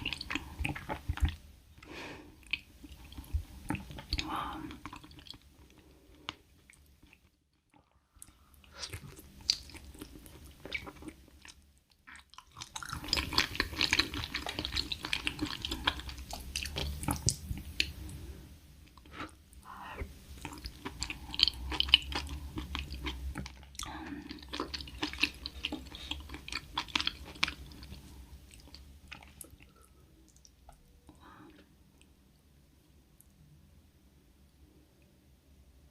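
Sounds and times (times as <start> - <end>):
person chewing food: 0.0 - 32.1.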